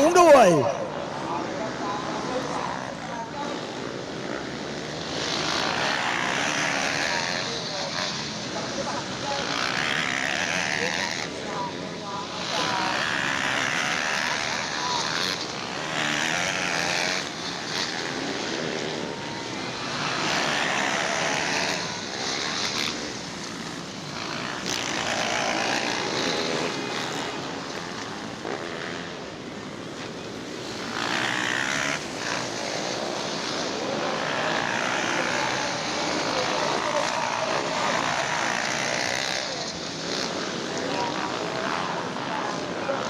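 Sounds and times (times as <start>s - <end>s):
motocross bike engines revving: 0.0s - 43.0s.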